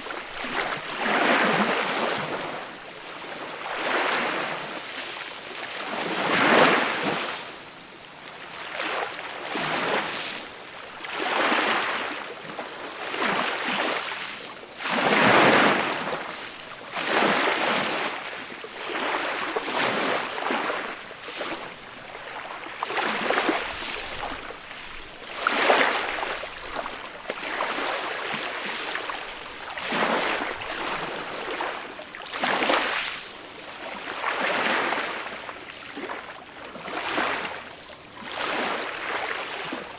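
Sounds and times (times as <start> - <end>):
small waves washing up beach: 0.0 - 39.9.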